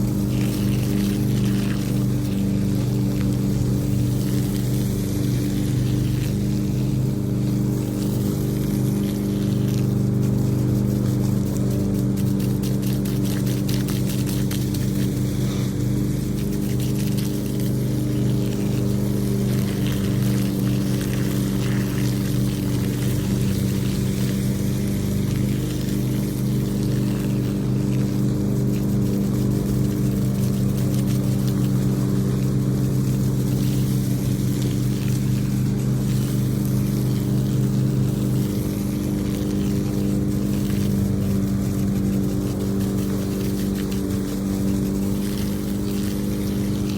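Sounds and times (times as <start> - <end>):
motor humming: 0.0 - 46.9
water pouring: 0.0 - 46.9.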